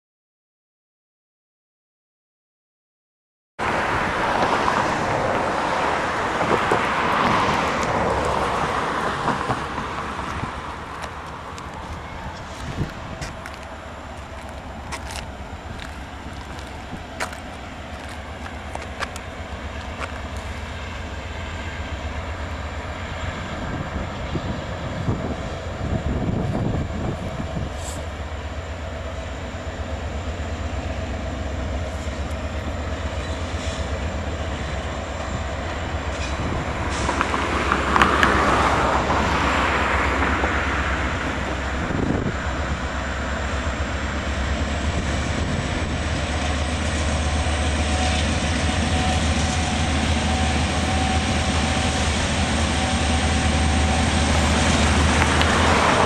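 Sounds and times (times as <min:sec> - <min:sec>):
freight train rumble: 0:03.6 - 0:56.0.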